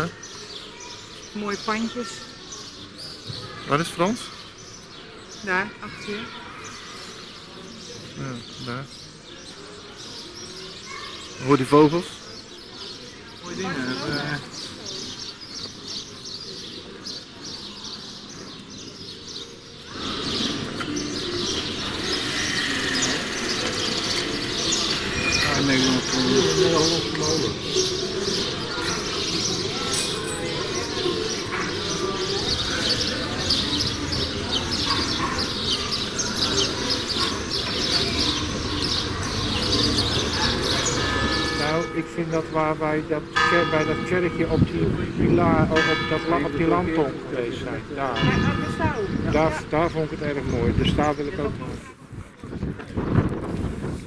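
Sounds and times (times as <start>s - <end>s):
small birds chirping: 0.0s - 51.8s.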